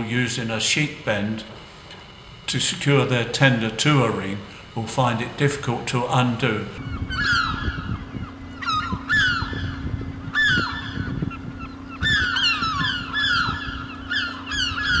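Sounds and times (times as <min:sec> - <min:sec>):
birds calling: 0:00.0 - 0:15.0
steady low hum: 0:00.0 - 0:15.0.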